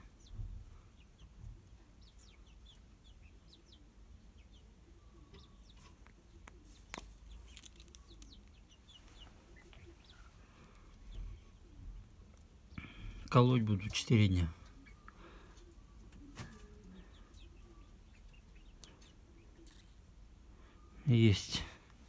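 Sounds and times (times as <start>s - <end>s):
faint bird chirps: 0.0s - 12.0s, 12.6s - 22.0s.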